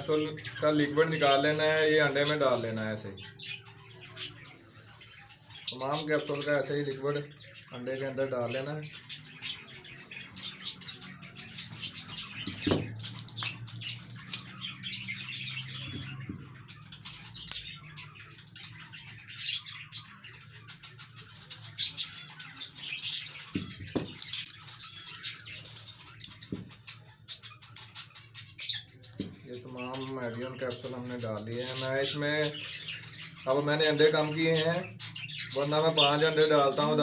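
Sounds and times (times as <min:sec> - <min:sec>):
cage birds chirping: 0:00.0 - 0:37.0.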